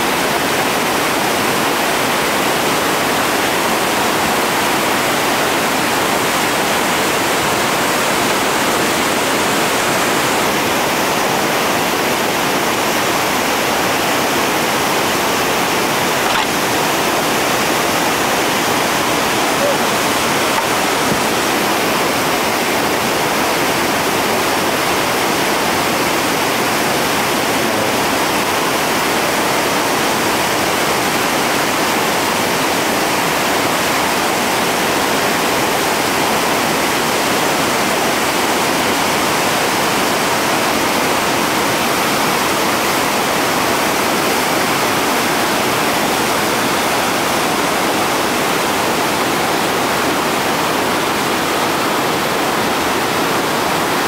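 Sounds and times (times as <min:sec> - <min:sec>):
whitewater rushing over falls: 0:00.0 - 0:54.0.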